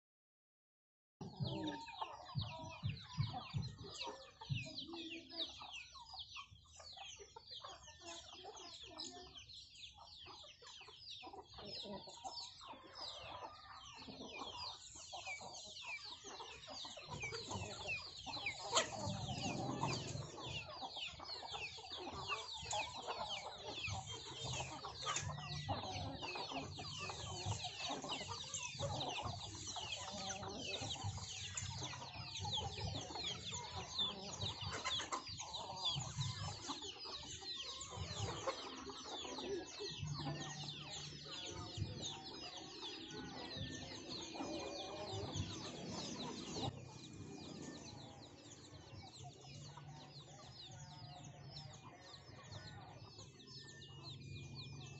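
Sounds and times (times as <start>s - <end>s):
hens clucking: 1.2s - 50.9s
chicks peeping: 1.2s - 54.9s.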